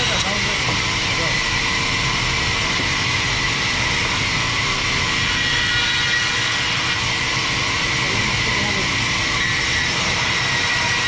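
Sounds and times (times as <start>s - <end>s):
band saw running: 0.0s - 11.0s.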